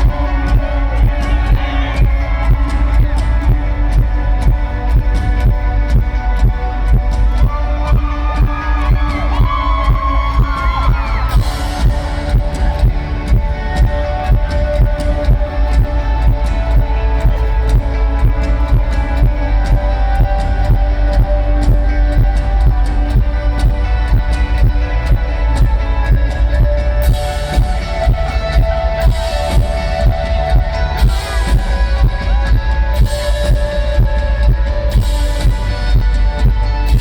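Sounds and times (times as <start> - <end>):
heavy booming bass: 0.0 - 37.0
rock band playing live: 0.0 - 37.0.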